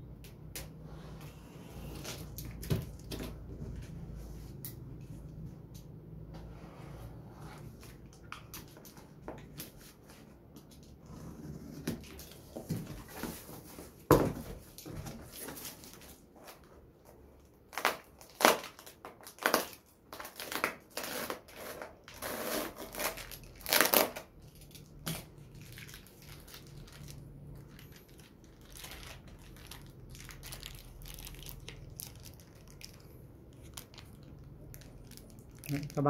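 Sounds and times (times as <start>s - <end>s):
cardboard and plastic rustling: 1.3s - 4.6s, 7.6s - 36.0s.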